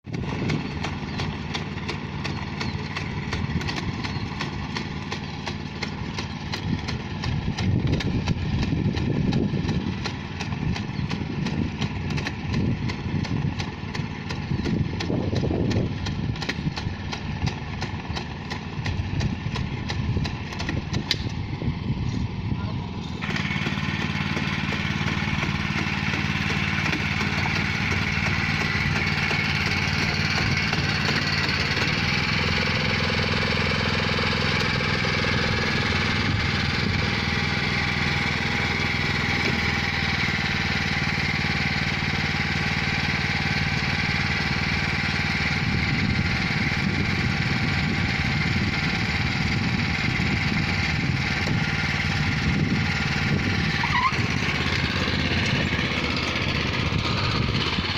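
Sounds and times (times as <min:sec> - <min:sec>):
small engine running: 0:00.0 - 0:57.9.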